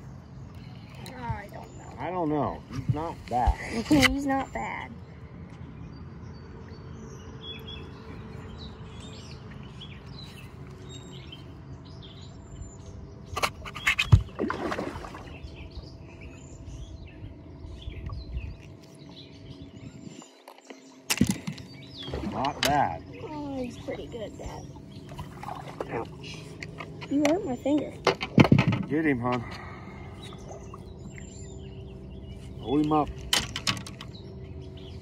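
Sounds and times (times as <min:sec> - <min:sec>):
low rumble and hum: 0:00.0 - 0:35.0
small birds chirping: 0:00.0 - 0:35.0.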